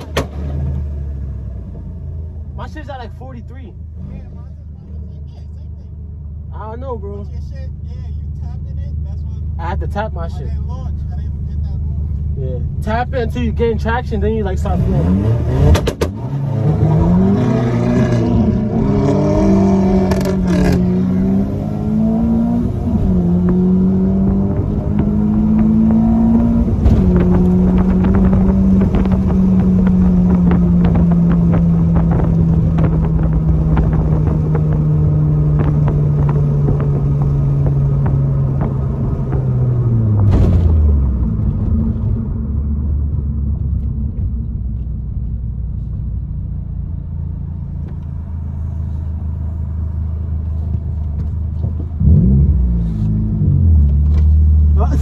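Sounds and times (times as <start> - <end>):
car engine: 0.0 - 55.0.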